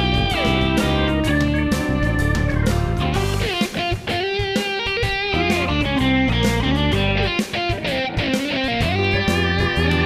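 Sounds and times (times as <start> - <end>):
bass: 0.0 - 4.1, 5.0 - 10.0
rock music with electric guitar: 0.0 - 10.0
steady drum beat: 0.0 - 10.0.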